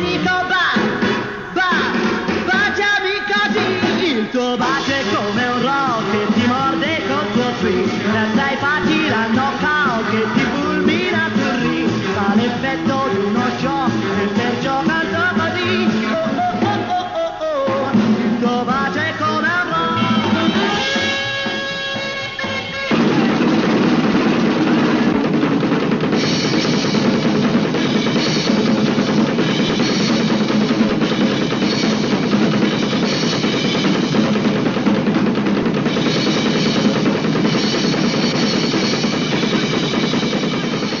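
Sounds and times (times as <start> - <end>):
fast drum roll: 0.0 - 41.0.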